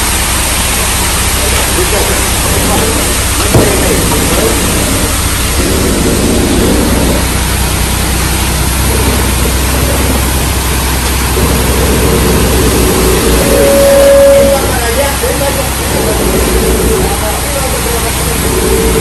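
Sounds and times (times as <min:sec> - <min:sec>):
diesel engine low rumble: 0:00.0 - 0:19.0.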